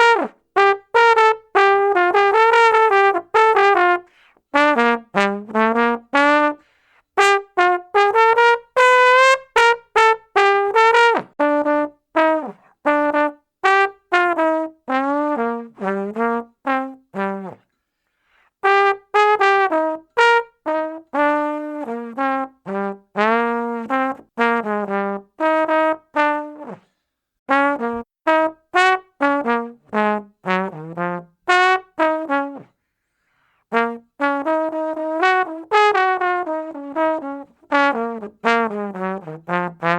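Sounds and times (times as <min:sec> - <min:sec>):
brass instrument playing: 0:00.0 - 0:17.8, 0:18.6 - 0:32.8, 0:33.7 - 0:39.9.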